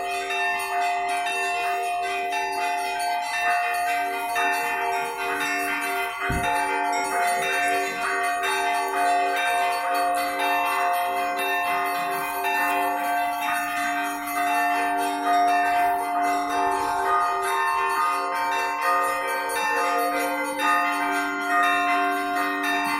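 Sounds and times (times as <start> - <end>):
large bells ringing: 0.0 - 22.9
small bells struck rapidly: 0.0 - 22.9.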